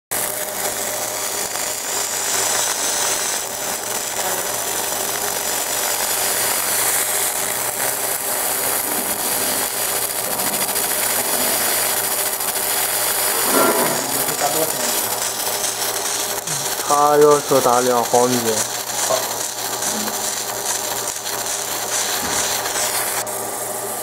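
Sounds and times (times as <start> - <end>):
laser engraving crackling hiss: 0.1 - 24.0.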